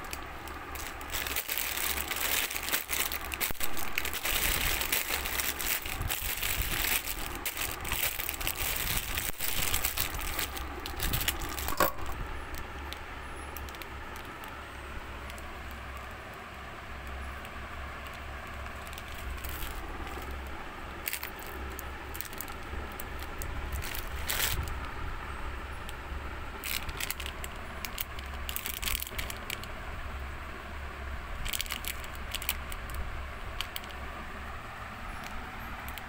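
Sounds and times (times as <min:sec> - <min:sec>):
plastic wrappers crinkling: 0:00.0 - 0:16.2, 0:17.3 - 0:25.0, 0:25.8 - 0:29.8, 0:31.3 - 0:36.0.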